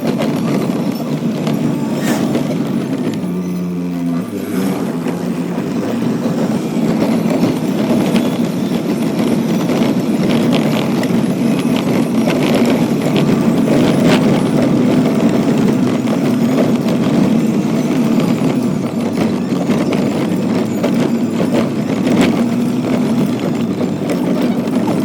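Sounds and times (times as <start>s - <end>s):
train rumbling on rails: 0.0s - 25.0s
wheels clicking on track: 0.0s - 25.0s.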